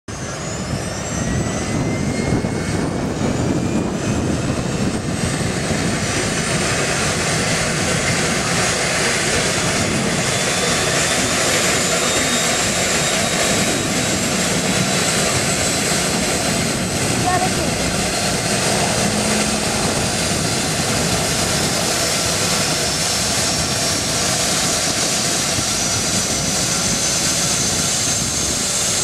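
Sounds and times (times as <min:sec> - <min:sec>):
helicopter rotor noise: 0:00.1 - 0:29.0
helicopter turbine whine: 0:00.1 - 0:29.0.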